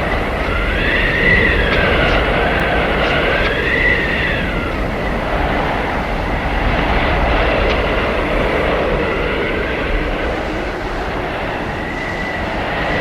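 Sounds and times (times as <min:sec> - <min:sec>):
blizzard wind blowing hard: 0:00.0 - 0:13.0.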